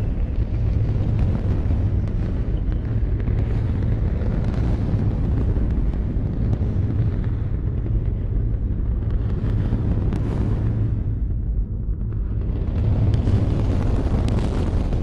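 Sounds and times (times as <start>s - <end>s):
faint crackles: 0.0s - 15.0s
rocket engines deep rumble: 0.0s - 15.0s.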